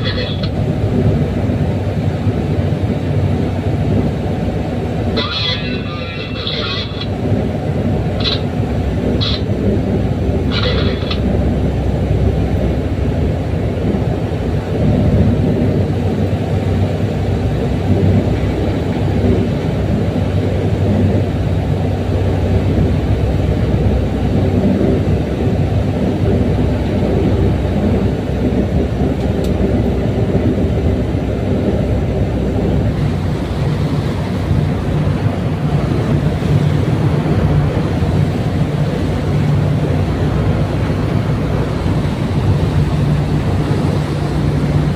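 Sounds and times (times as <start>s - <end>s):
boat diesel engine drone: 0.0s - 44.9s
churning wake water: 0.0s - 44.9s.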